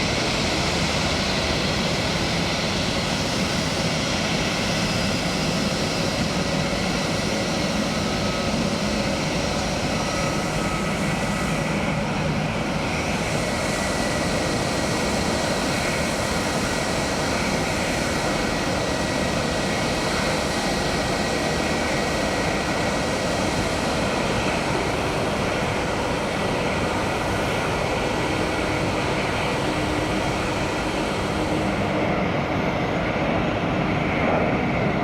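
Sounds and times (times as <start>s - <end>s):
faint engine whine: 0.0s - 35.0s
jet engines running: 0.0s - 35.0s.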